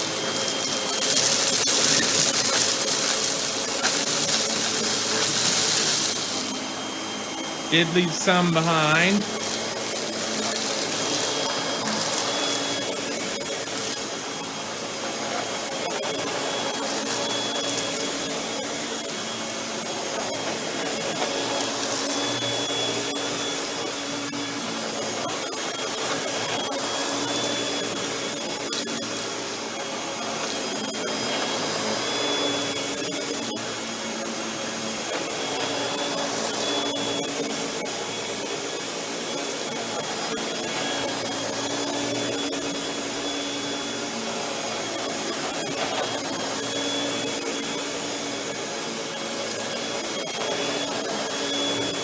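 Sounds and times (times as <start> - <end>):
vacuum cleaner motor running: 0.0 - 7.7, 9.2 - 52.0.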